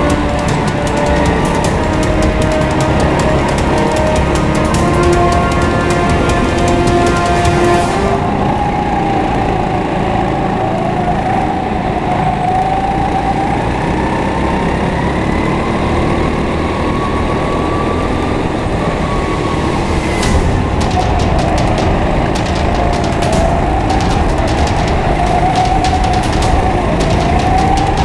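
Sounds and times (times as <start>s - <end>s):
go-kart engine running hard: 0.0s - 28.0s.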